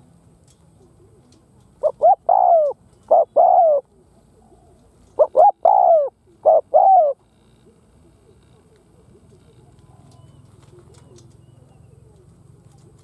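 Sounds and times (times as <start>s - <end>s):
dove cooing: 0.8s - 13.0s.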